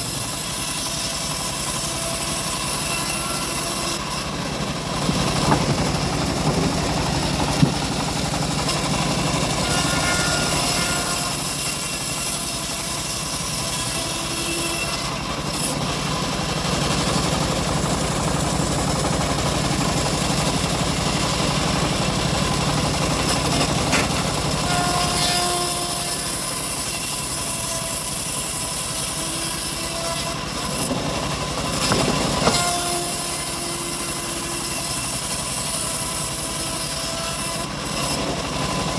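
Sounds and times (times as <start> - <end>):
bandsaw sawmill sawing log: 0.0 - 38.9.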